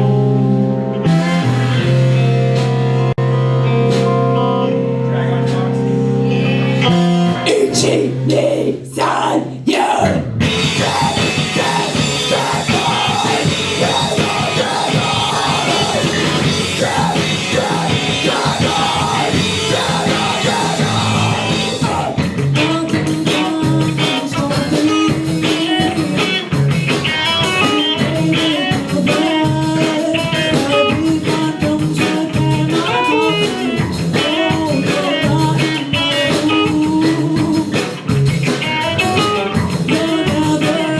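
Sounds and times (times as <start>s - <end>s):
drums: 0.0s - 40.9s
electric guitar: 0.0s - 40.9s
sustained bass line: 0.0s - 40.9s.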